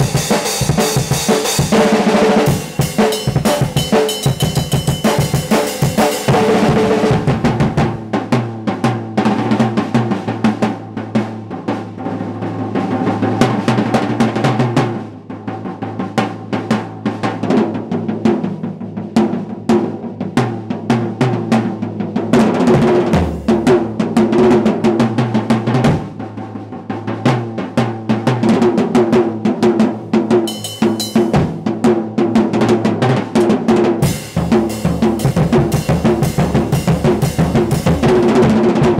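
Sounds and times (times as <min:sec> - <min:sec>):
drum kit solo: 0:00.0 - 0:38.9.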